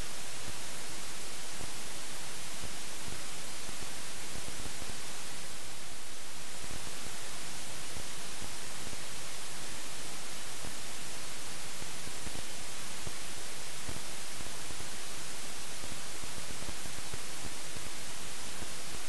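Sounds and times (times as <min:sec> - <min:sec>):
static hiss: 0:00.0 - 0:19.0.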